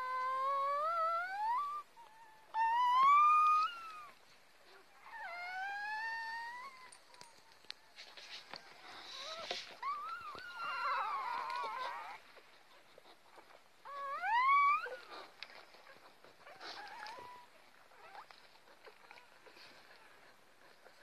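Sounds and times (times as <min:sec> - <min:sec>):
puppies squealing and whimpering: 0:00.0 - 0:07.7, 0:08.4 - 0:21.0.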